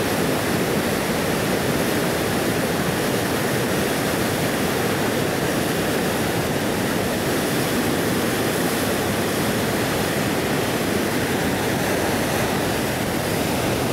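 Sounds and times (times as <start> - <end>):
whitewater rushing: 0.0 - 13.9.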